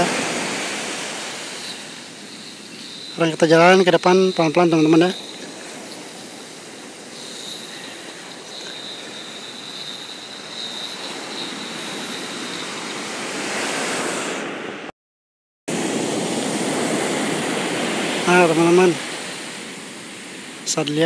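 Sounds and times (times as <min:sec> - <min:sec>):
waves washing up beach: 0:00.0 - 0:14.9, 0:15.7 - 0:21.0.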